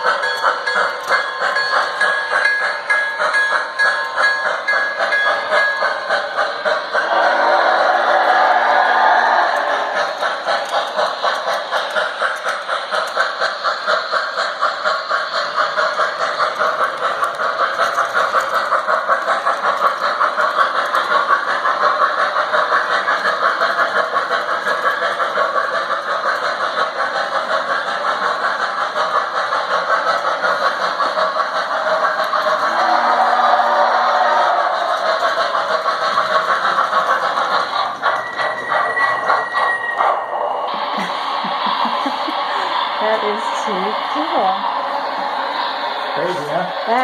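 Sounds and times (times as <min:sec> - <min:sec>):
model train running on track: 0:00.0 - 0:47.0.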